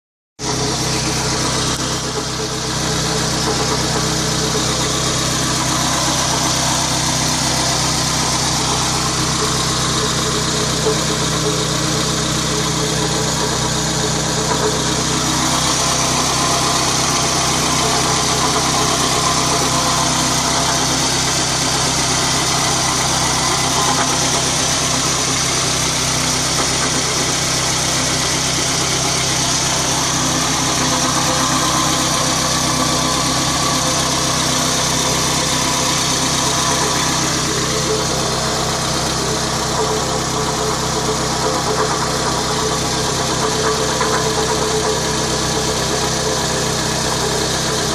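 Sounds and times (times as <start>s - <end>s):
car engine idling: 0.4s - 47.9s
whirring from engine: 0.4s - 47.9s.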